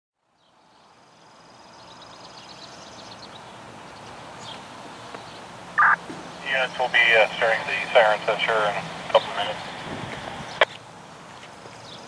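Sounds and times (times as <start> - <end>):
outdoor background noise: 0.2 - 12.0.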